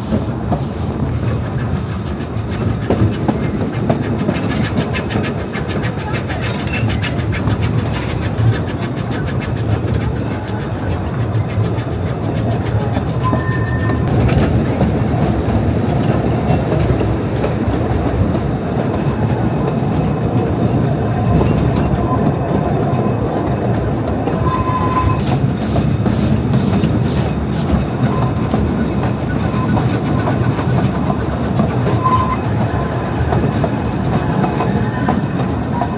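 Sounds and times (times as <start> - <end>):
train wheels clattering on track: 0.0 - 35.9.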